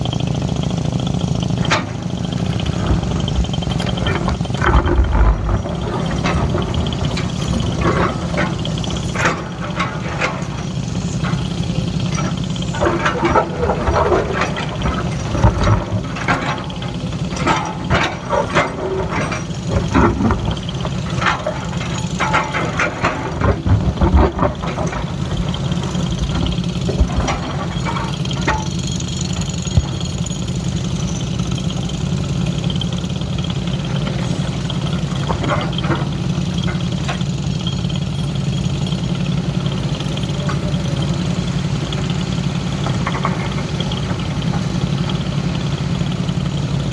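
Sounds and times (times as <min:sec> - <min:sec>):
excavator diesel engine running: 0:00.0 - 0:46.9
irregular knocks and clatters: 0:01.4 - 0:38.8, 0:39.4 - 0:45.6.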